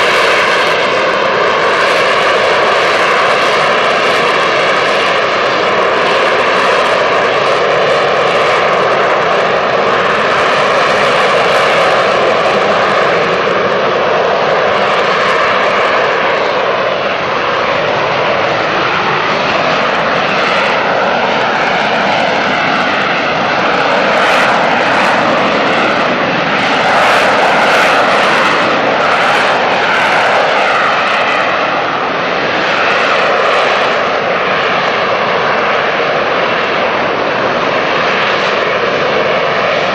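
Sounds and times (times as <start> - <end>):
jet engine roaring and whining: 0.0 - 39.9.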